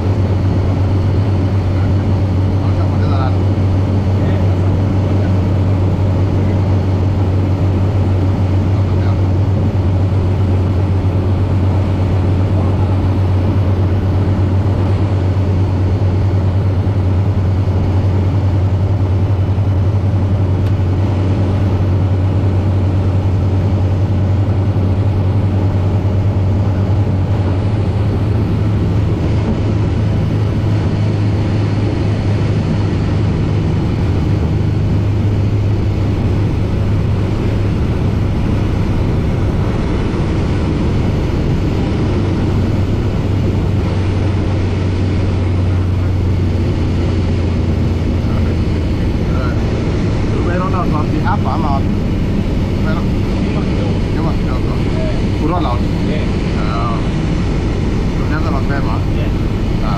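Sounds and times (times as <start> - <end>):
light aircraft engine drone: 0.0 - 59.9.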